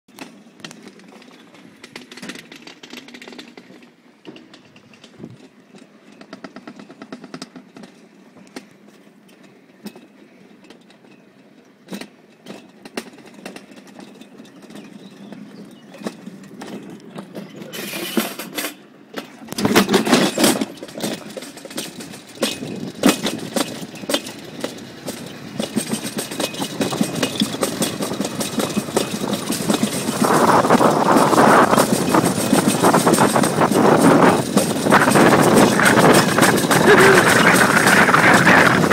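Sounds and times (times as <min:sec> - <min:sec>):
sled wheels rattling on steel: 0:00.1 - 0:38.9.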